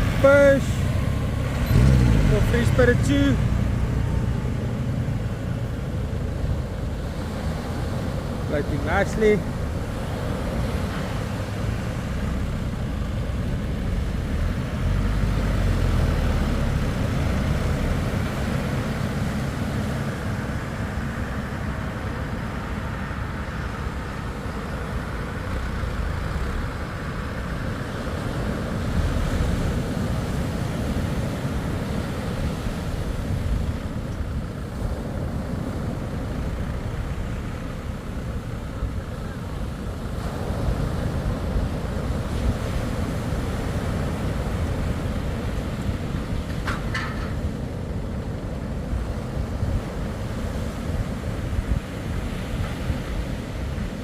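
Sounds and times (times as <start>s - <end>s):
outboard engines running: 0.0s - 54.0s
surf rushing: 0.0s - 54.0s.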